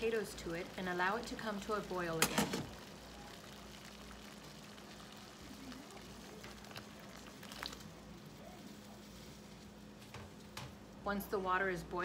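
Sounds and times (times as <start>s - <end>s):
water boiling in a pot: 0.0s - 12.0s.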